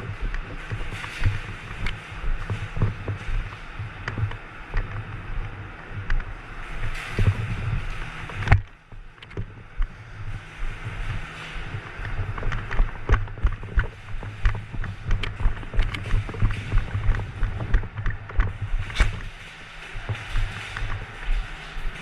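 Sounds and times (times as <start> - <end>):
rustling and handling noise: 0.0 - 22.0
wind on microphone: 0.0 - 22.0.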